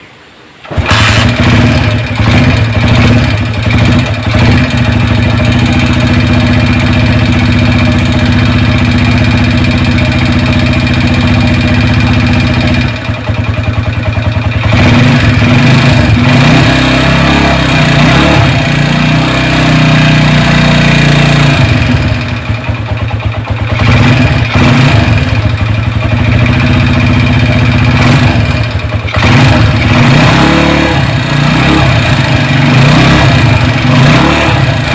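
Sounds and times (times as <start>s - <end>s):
motorcycle engine running: 0.6s - 34.9s.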